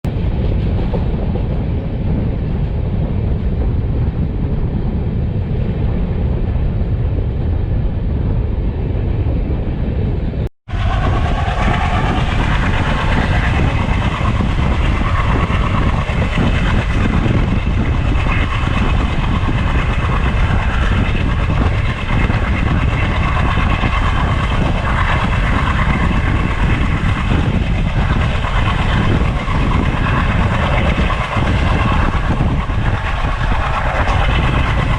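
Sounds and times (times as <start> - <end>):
train rumbling on track: 0.1 - 34.9.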